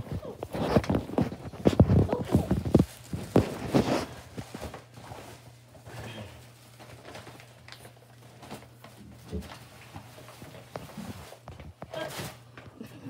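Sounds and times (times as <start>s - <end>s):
paper bag and tissue rustling: 0.0s - 12.6s.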